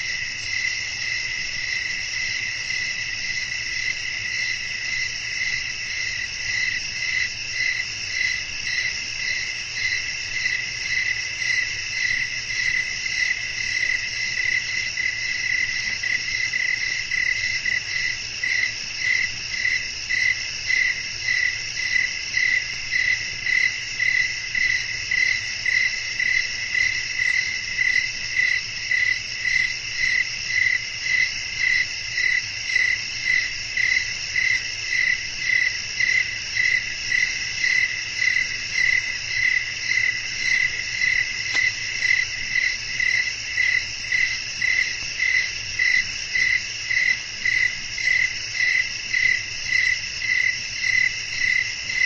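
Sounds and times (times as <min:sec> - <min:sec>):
insect chorus: 0:00.0 - 0:52.0
loud cricket chirping: 0:00.0 - 0:52.0.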